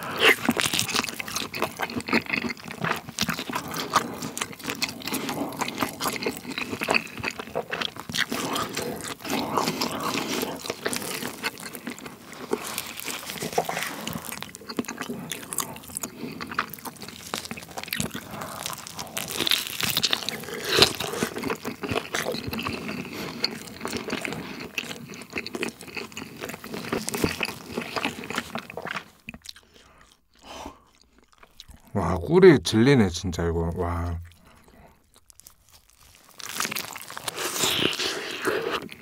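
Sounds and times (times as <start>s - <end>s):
crunchy chewing: 0.0s - 32.0s, 34.2s - 39.0s.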